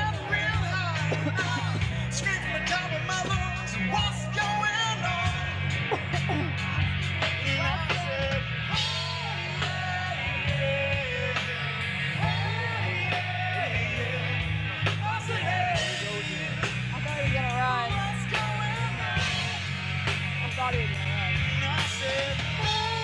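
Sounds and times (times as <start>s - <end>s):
person singing: 0.0s - 19.7s
live rock band playing: 0.0s - 23.0s
steady drum beat: 0.0s - 23.0s.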